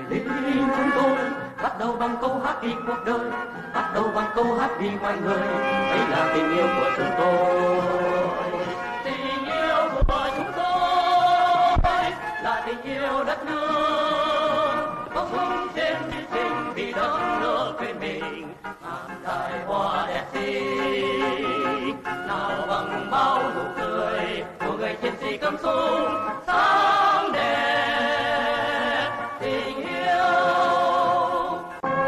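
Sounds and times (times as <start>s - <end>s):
male vocal group singing: 0.0s - 31.9s.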